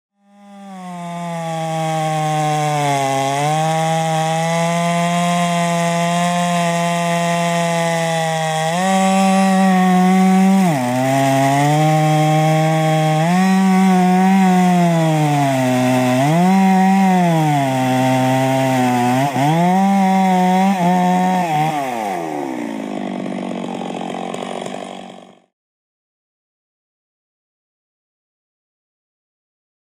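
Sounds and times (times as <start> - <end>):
chainsaw cutting log: 0.2 - 25.5.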